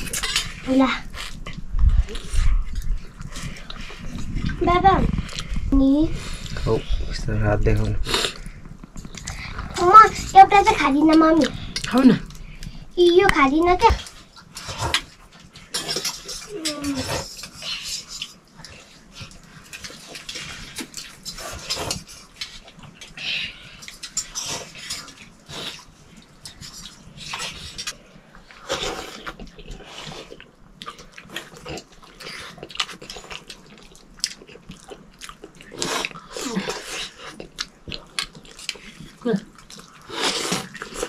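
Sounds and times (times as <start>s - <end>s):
slurping and chewing: 0.0s - 13.0s, 13.6s - 41.0s.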